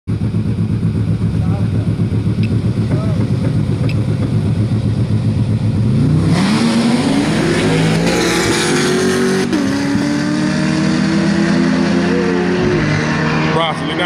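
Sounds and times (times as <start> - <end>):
drag car engines revving: 0.1 - 14.0.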